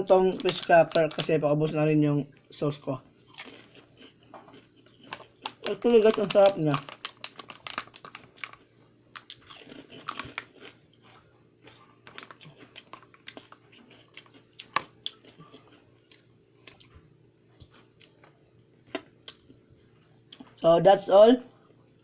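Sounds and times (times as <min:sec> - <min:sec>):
person chewing crunchy crackers: 0:00.0 - 0:01.8, 0:03.2 - 0:20.6.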